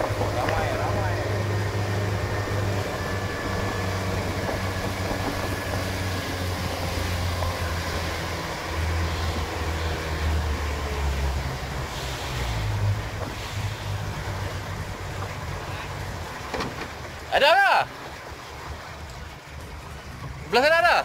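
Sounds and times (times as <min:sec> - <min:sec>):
boat engine humming: 0:00.0 - 0:21.0
water rushing along hull: 0:00.0 - 0:21.0
wind: 0:00.0 - 0:21.0.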